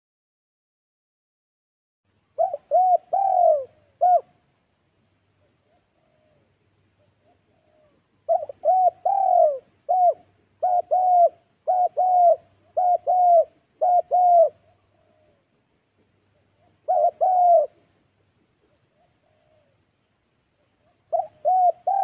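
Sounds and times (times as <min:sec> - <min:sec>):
dove cooing: 0:02.2 - 0:04.4, 0:05.6 - 0:19.9, 0:20.6 - 0:22.0.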